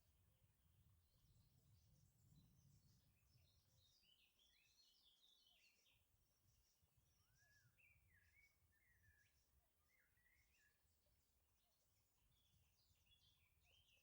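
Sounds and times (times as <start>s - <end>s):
faint birdsong chirps and warbles: 0.0s - 14.0s.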